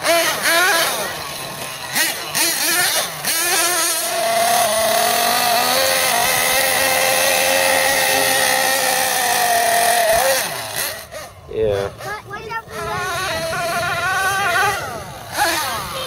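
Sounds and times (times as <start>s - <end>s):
model engine high-pitched whine: 0.0s - 16.0s.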